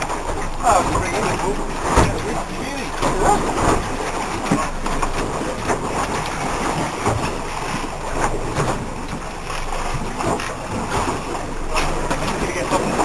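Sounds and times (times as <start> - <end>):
sea water washing around boat: 0.0 - 13.0
wind buffeting microphone: 0.0 - 13.0.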